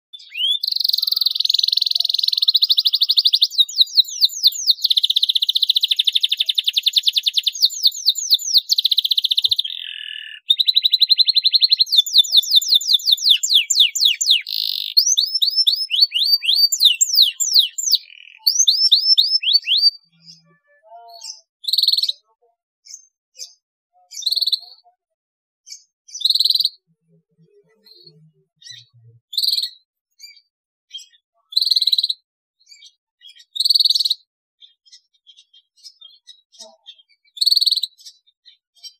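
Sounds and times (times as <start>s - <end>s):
canary singing trills: 0.1s - 38.9s.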